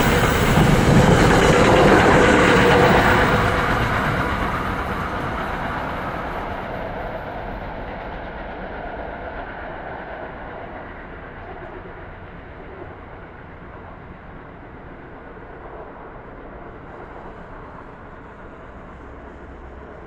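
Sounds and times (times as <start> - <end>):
train rumbling along rails: 0.0 - 20.0.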